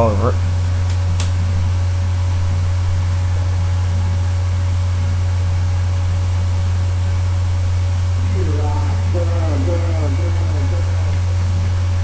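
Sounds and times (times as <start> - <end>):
tape recorder hum: 0.0 - 12.0.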